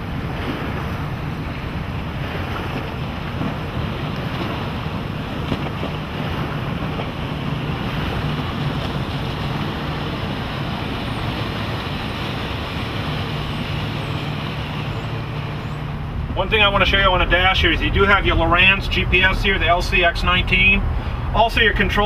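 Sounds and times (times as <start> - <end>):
motorboat engine drone: 0.0 - 22.0
water rushing and spray: 0.0 - 22.0
wind buffeting microphone: 0.0 - 22.0.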